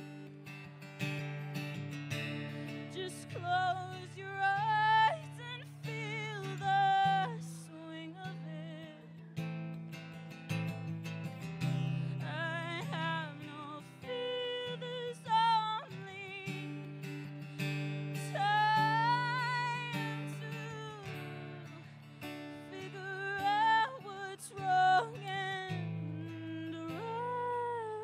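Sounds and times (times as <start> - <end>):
strummed acoustic guitar: 0.0 - 28.0
woman singing: 2.1 - 9.8, 11.6 - 28.0.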